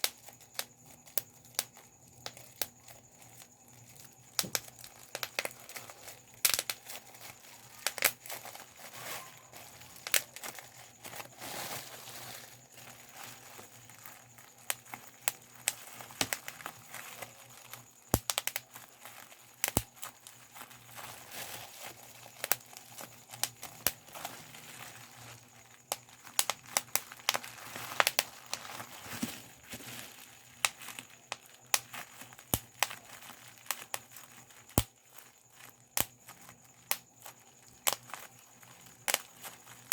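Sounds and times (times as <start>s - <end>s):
bubble wrap popping: 0.0s - 39.9s
plastic sheet crinkling: 0.0s - 39.9s.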